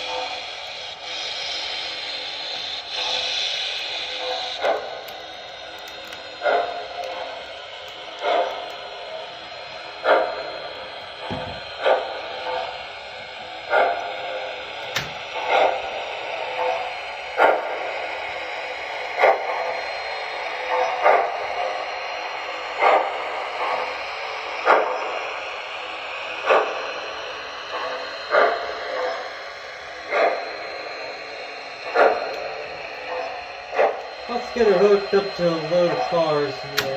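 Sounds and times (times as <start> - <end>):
model locomotive steam chuffs: 0.0 - 36.9.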